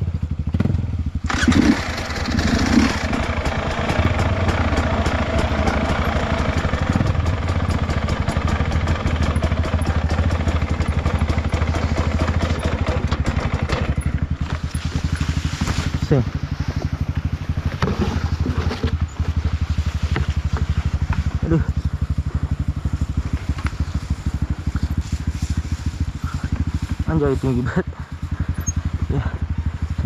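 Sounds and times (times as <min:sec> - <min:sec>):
motorcycle engine running hard: 0:00.0 - 0:30.0.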